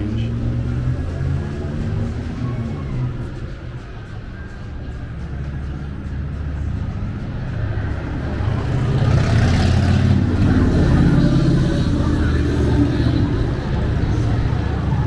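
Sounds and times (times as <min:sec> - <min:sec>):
vehicle engine rumbling by: 0:00.0 - 0:15.0.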